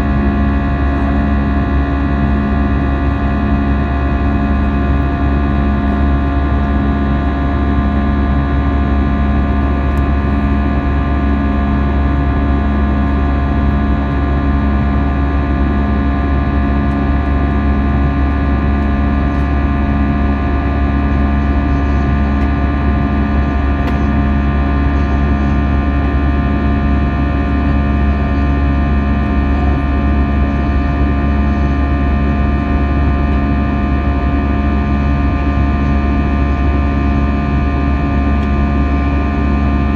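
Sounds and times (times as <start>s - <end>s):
aircraft cabin engine drone: 0.0s - 39.9s
heavy low rumble: 0.0s - 39.9s.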